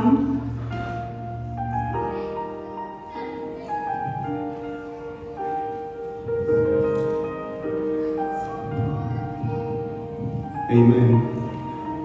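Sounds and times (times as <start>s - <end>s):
slow keyboard chords: 0.0s - 12.0s.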